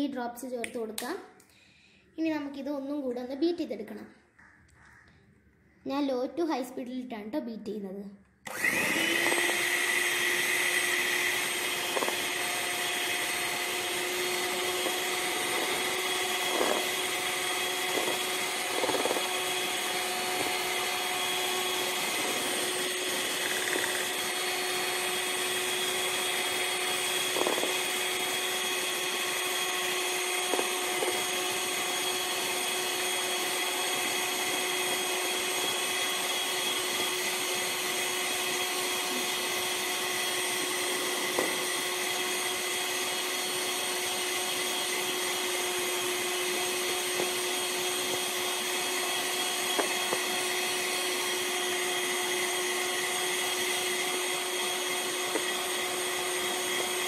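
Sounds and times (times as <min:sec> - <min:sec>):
electric mixer whining: 0:08.4 - 0:57.0.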